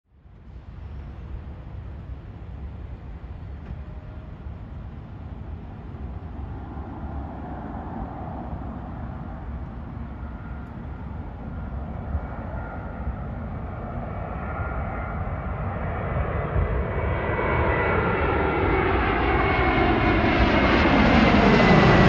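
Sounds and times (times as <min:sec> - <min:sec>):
jet engines rushing: 0:00.2 - 0:22.0.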